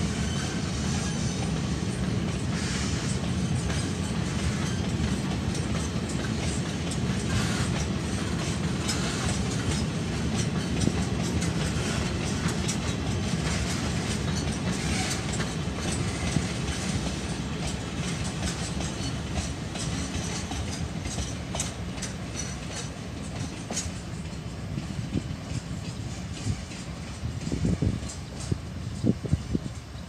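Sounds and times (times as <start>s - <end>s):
freight train rumbling past: 0.0s - 30.0s
wheels clacking over rail joints: 0.2s - 30.0s.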